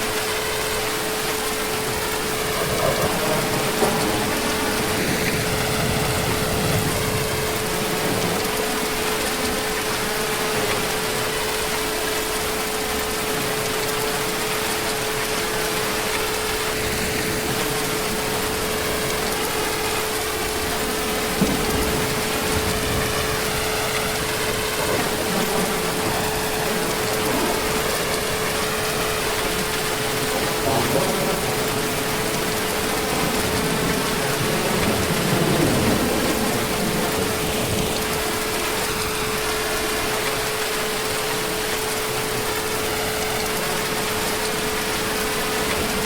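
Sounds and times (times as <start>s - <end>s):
heavy rain falling: 0.0s - 46.0s
steady humming tone: 0.0s - 46.0s.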